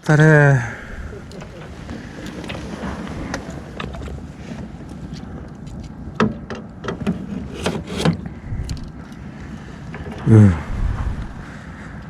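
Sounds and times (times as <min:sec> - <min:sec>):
wind buffeting microphone: 0:00.7 - 0:12.0.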